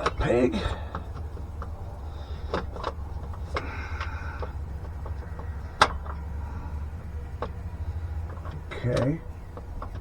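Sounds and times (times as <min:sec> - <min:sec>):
light clicks and taps of parts: 0:00.0 - 0:06.3, 0:07.2 - 0:10.0
steady low hum: 0:00.0 - 0:10.0.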